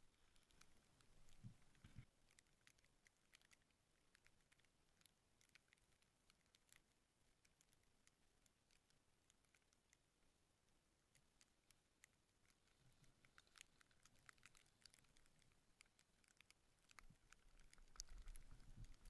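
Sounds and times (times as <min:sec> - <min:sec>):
faint light ticks and pattering: 0:00.0 - 0:19.0.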